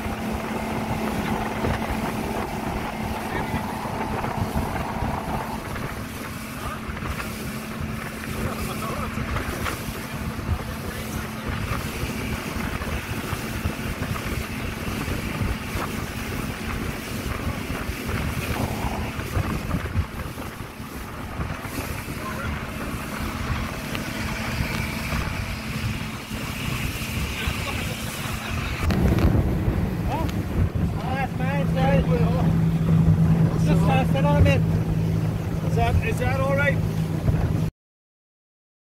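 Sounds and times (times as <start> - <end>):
boat engine humming: 0.0 - 37.7
water rushing past hull: 0.0 - 37.7
wind buffeting microphone: 0.0 - 37.7.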